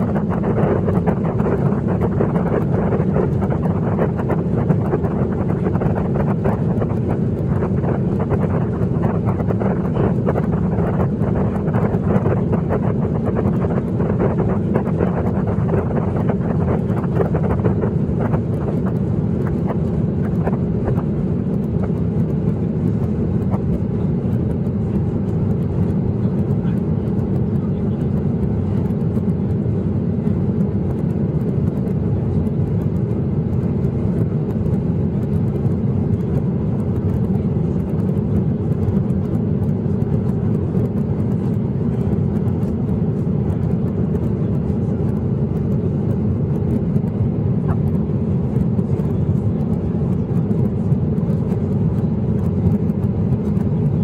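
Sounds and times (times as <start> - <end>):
jet engines at climb power: 0.0 - 54.0.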